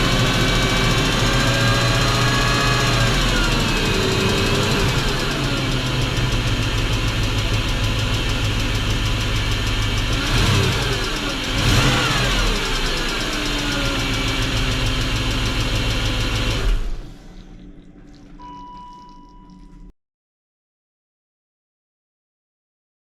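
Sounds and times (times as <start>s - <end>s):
engine running with rhythmic knock: 0.0s - 19.9s.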